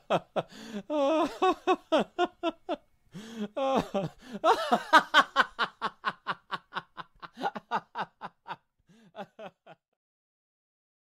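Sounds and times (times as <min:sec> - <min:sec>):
woman laughing: 0:00.0 - 0:02.8, 0:03.5 - 0:09.8.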